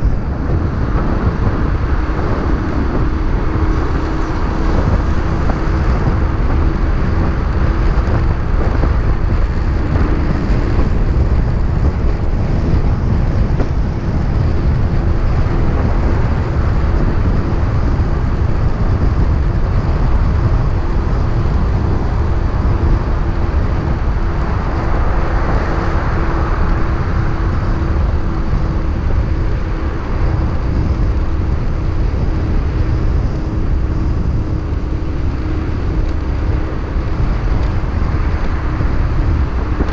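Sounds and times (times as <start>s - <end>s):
motorcycle engine drone: 0.0s - 39.9s
road noise: 0.0s - 39.9s
wind rush on microphone: 0.0s - 39.9s.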